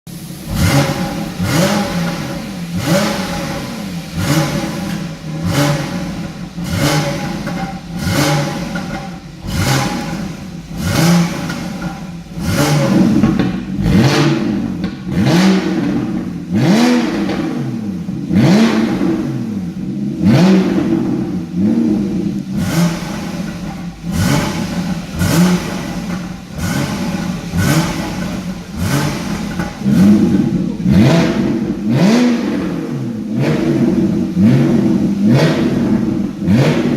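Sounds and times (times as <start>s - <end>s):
car engine revving: 0.1s - 36.9s.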